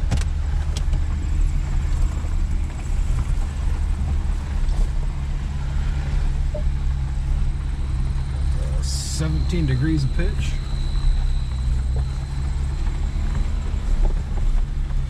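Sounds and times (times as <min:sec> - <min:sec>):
truck engine running at low revs: 0:00.0 - 0:15.0
vehicle clicks over rough ground: 0:00.0 - 0:15.0.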